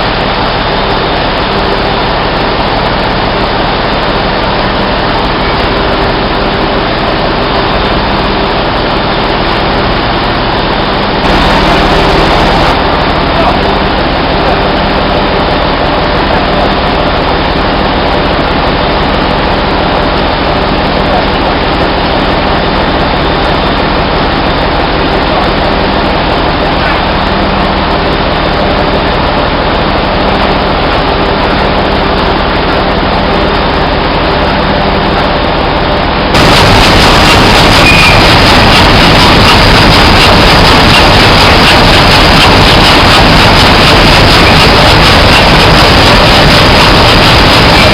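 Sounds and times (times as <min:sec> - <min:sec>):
heavy machinery drone: 0:00.0 - 0:47.9.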